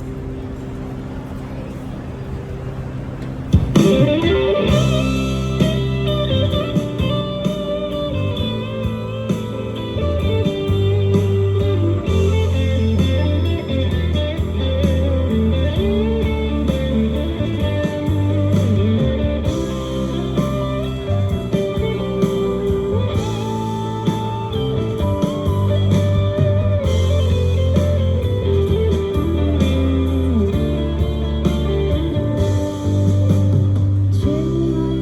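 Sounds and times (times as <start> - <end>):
electric guitar lead: 0.0 - 35.0
soft held chords: 0.0 - 35.0
bass line: 3.3 - 35.0.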